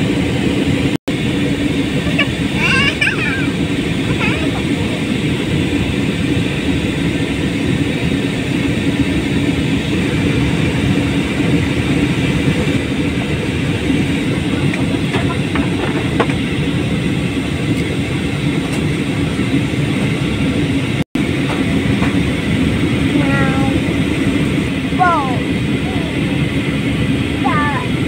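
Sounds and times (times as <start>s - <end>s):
airliner engine drone: 0.0s - 28.0s
rushing air: 0.0s - 28.0s.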